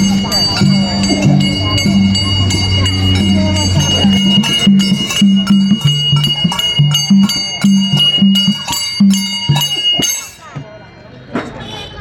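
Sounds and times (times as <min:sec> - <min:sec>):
low two-note melody: 0:00.0 - 0:09.9
high held tone: 0:00.0 - 0:10.4
sharp percussion strikes: 0:00.0 - 0:10.9.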